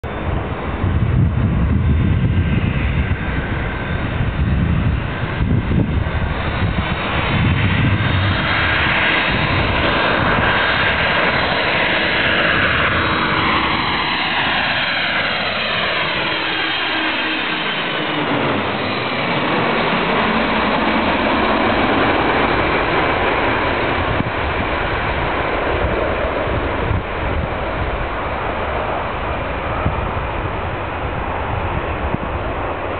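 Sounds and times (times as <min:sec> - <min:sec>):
jet airliner passing overhead: 0:00.0 - 0:32.9
wind buffeting microphone: 0:00.0 - 0:32.9.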